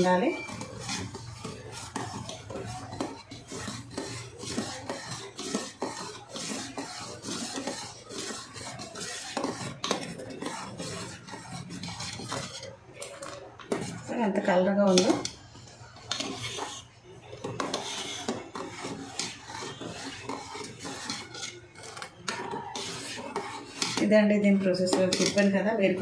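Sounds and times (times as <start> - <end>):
spoon scraping a steel pot: 0.0 - 26.0.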